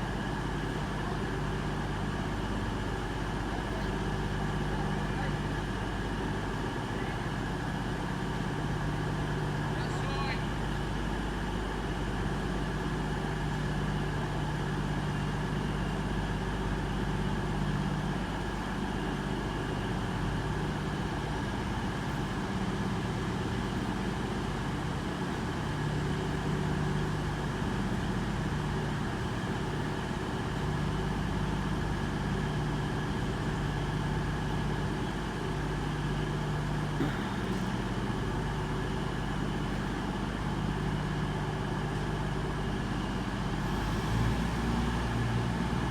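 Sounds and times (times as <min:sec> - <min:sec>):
diesel train engine idling: 0:00.0 - 0:45.9.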